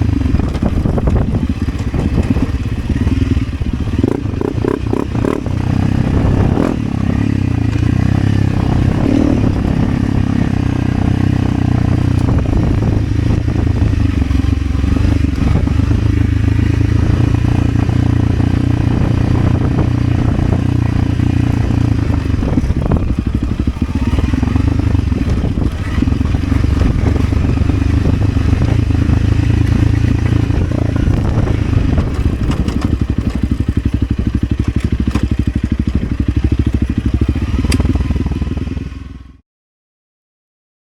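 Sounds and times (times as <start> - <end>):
motorcycle engine running: 0.0 - 39.4.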